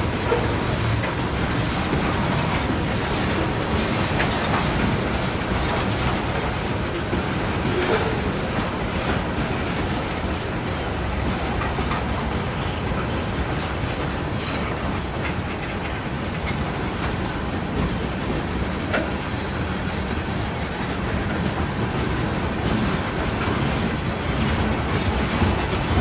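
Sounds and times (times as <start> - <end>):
train wheels clacking over rail joints: 0.0 - 26.0.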